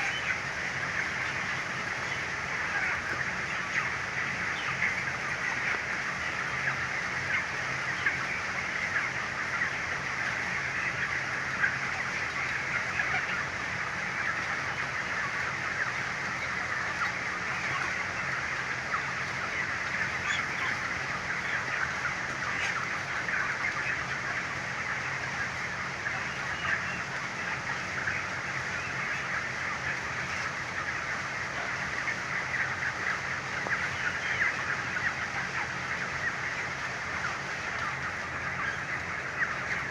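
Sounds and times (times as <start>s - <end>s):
chickens chirping and clucking: 0.0s - 39.9s.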